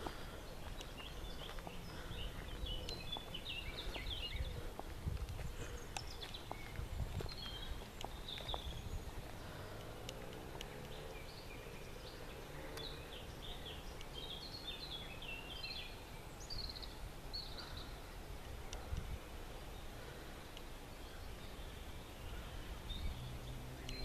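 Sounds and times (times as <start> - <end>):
songbirds chirping and trilling: 0.0 - 24.0.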